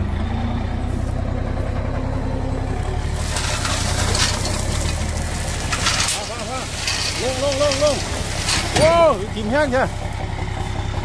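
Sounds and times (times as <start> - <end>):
truck diesel engine under load: 0.0 - 11.0.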